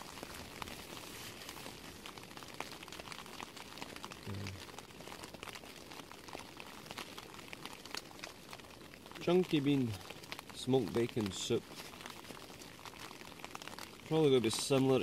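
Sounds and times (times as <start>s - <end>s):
light ticking and crackling: 0.0s - 15.0s.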